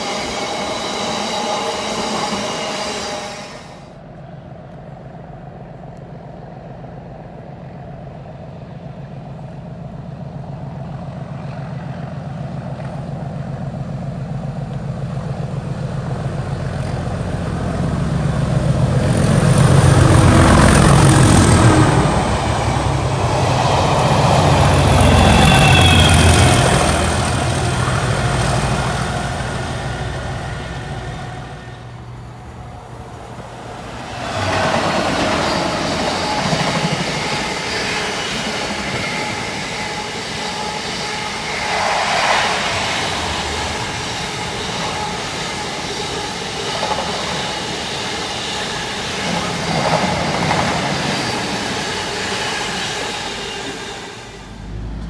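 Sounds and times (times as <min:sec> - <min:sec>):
diesel locomotive passing: 0:00.0 - 0:55.0
wheels rumbling on rail: 0:00.0 - 0:55.0.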